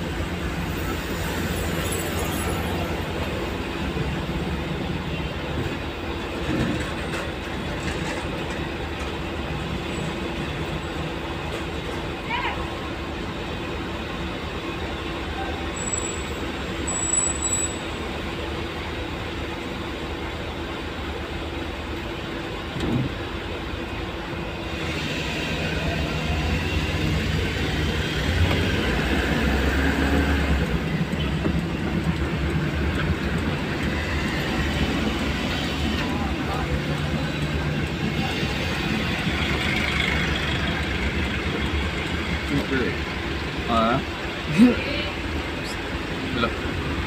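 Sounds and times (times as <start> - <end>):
road noise: 0.0 - 47.0.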